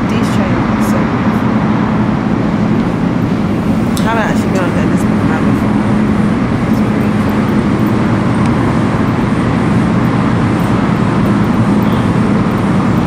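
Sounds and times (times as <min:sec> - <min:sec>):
train interior rumble and hum: 0:00.0 - 0:13.0.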